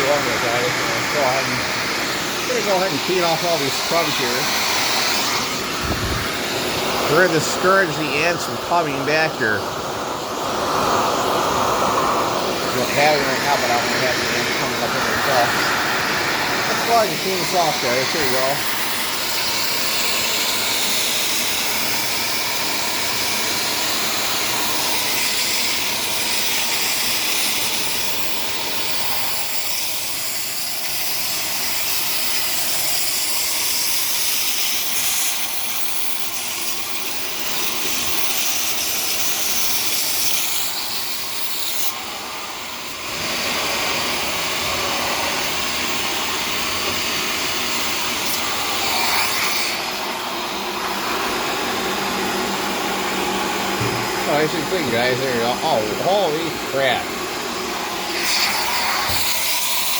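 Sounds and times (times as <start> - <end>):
vacuum cleaner sucking crumbs: 0.0 - 59.9.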